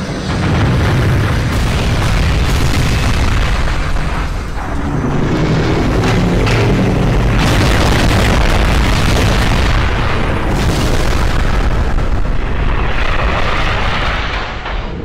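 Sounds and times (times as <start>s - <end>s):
cartoon explosions and booms: 0.0s - 15.0s.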